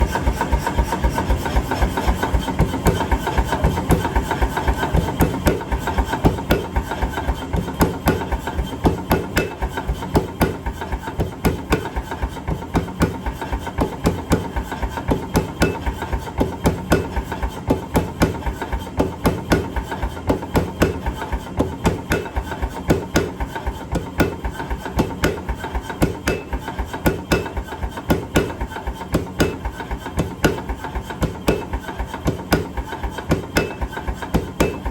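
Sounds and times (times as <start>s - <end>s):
power hammer pounding hot metal: 0.0s - 34.9s.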